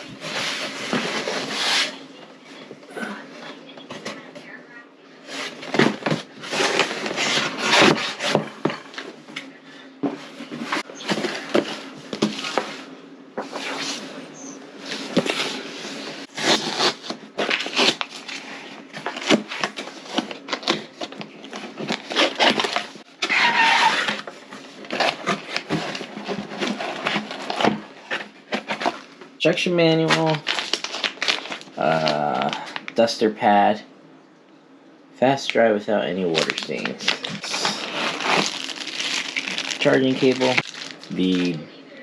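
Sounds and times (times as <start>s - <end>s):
cardboard packaging rustling: 0.0s - 2.8s, 5.2s - 9.3s, 10.0s - 29.2s, 29.9s - 33.1s, 36.2s - 41.6s.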